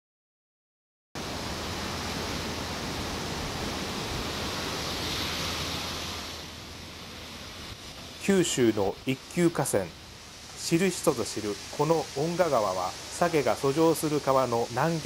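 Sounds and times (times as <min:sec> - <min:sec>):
water rushing over weir: 0:01.2 - 0:15.0.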